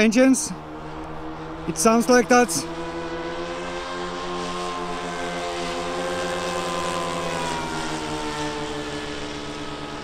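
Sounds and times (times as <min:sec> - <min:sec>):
model airplane engines droning: 0:00.0 - 0:10.0.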